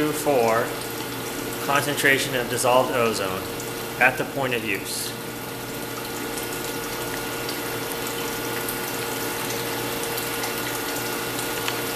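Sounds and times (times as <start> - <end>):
water running into a steel sink: 0.0 - 11.9.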